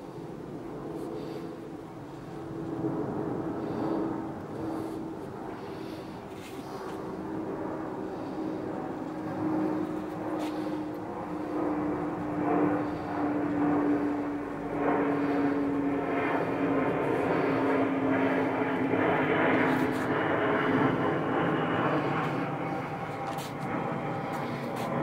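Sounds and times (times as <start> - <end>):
airplane engine drone: 0.0 - 25.0.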